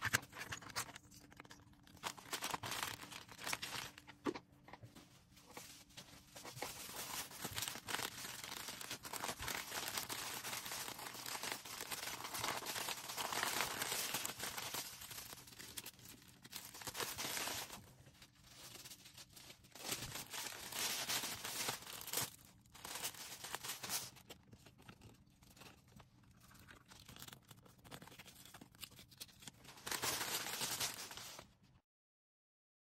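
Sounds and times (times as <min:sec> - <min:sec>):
packaging tearing: 0:00.0 - 0:04.0, 0:06.5 - 0:31.5
packaging crinkling and rustling: 0:00.0 - 0:31.6.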